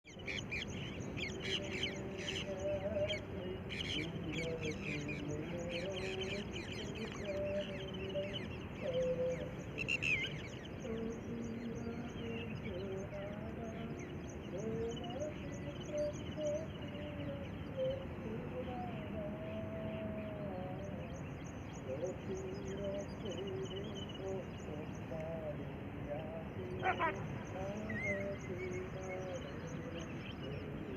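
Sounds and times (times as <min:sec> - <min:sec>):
birds chirping: 0:00.0 - 0:30.9
steady background hiss: 0:00.1 - 0:30.9.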